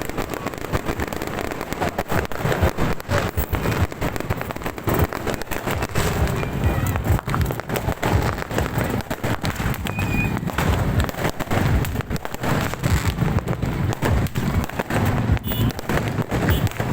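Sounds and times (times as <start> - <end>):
deep firework booms: 0.0 - 16.9
fireworks bangs and crackles: 0.0 - 16.9.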